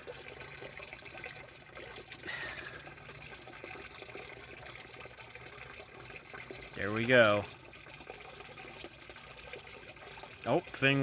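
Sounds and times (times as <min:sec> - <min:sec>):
water trickling in a pond: 0:00.0 - 0:11.0.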